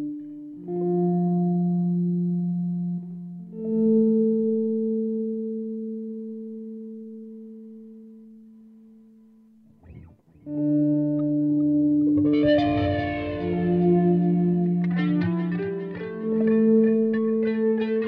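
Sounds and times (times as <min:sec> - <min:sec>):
electric guitar ringing chords: 0:00.0 - 0:18.0.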